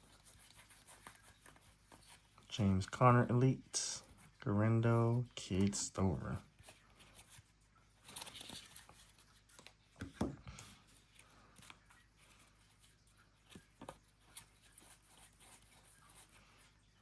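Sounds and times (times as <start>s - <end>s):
card rustle: 0.0s - 2.5s, 3.1s - 16.9s.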